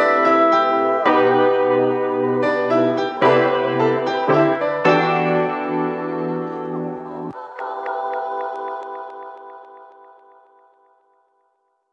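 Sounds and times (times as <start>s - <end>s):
keyboard chords: 0.0s - 11.2s.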